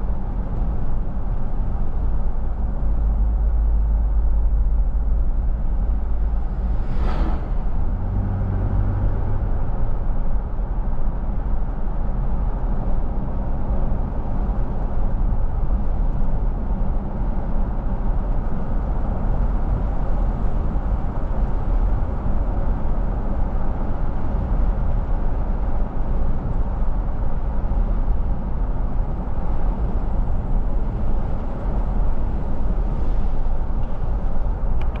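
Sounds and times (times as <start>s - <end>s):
car tyre and engine rumble: 0.0s - 35.0s.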